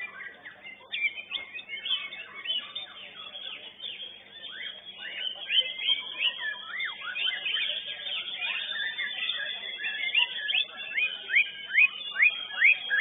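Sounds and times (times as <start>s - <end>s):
bird singing whistled notes: 0.0s - 13.0s.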